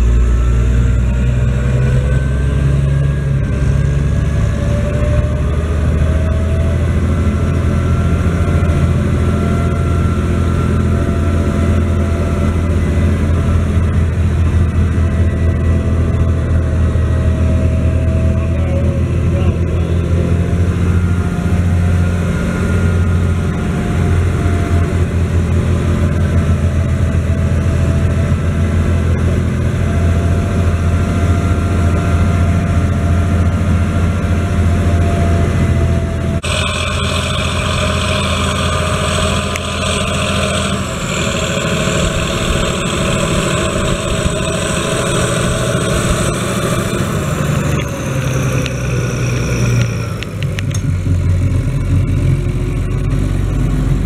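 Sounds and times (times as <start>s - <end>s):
high steady whine: 0.0s - 54.0s
tractor diesel engine under load: 0.0s - 54.0s.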